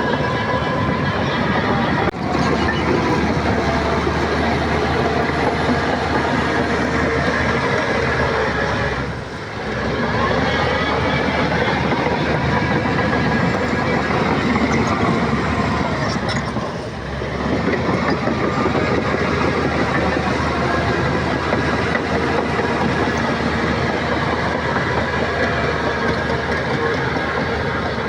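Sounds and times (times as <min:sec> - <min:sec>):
bulldozer diesel engine running: 0:00.0 - 0:28.0
steel tracks rolling: 0:00.0 - 0:28.0.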